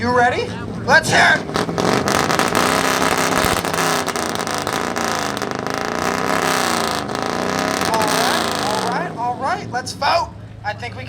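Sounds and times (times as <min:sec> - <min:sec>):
exhaust pops and crackles: 0:00.0 - 0:10.2
car engine revving: 0:00.7 - 0:10.6.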